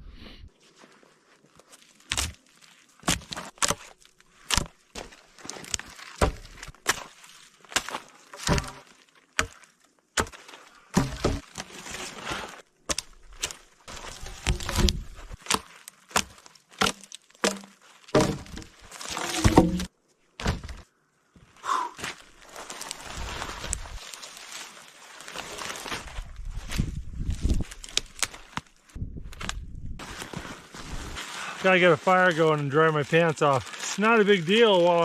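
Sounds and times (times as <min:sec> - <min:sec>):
knocks cracks and crunches: 0:01.6 - 0:20.9, 0:22.0 - 0:35.0.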